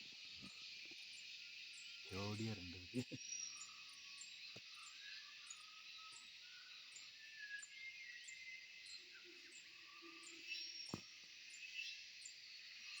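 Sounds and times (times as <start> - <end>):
insects buzzing: 0.0 - 13.0
birds whistling: 1.6 - 12.0.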